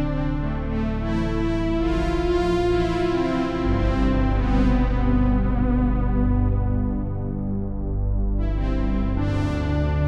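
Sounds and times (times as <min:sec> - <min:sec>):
synthesizer sustained chords: 0:00.0 - 0:10.0.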